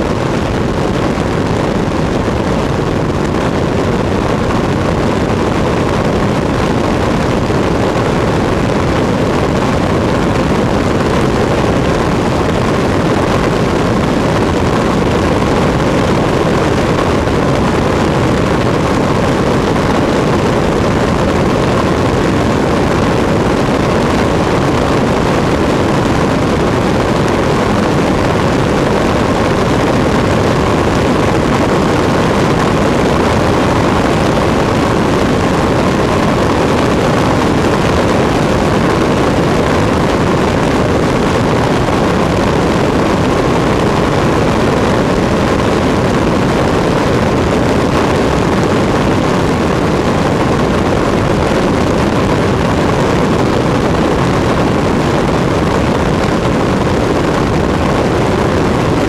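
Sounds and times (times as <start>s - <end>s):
airplane engine and propeller: 0.0s - 59.0s
rushing wind: 0.0s - 59.0s.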